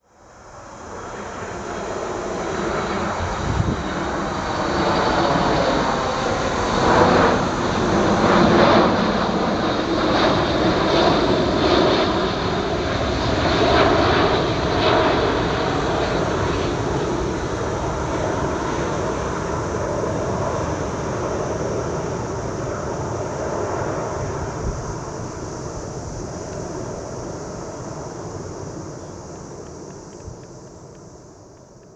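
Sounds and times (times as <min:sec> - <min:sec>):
jet airliner passing: 0:00.1 - 0:31.5.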